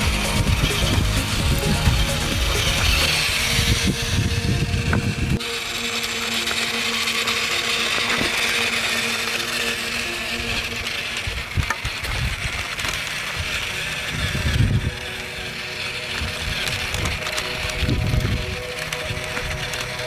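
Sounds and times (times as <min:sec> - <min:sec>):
toy motor and gears whirring: 0:00.0 - 0:20.0.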